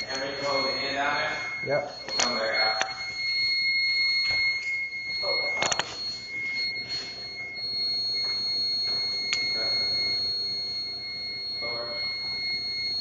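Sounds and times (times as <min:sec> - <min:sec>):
house alarm tone: 0:00.0 - 0:13.0.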